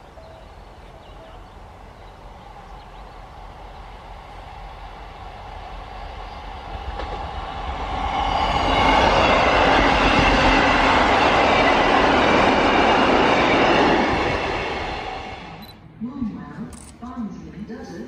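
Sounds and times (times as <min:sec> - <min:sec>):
train passing at speed: 0:00.0 - 0:16.3.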